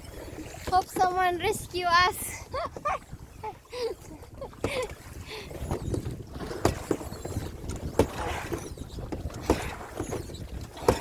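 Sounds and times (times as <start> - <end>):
paddle splashing through water: 0.0 - 11.0
wind rumble on microphone: 0.0 - 11.0.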